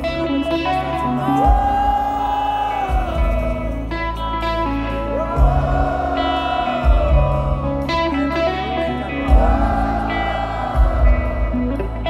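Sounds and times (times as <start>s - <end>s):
heavy bass: 0.0s - 12.0s
live rock band playing loudly: 0.0s - 12.0s.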